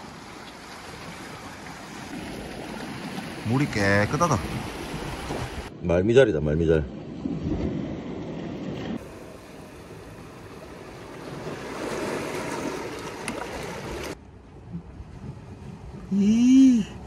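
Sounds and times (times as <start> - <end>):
sea water lapping on rocks: 0.0 - 5.7, 7.0 - 16.1.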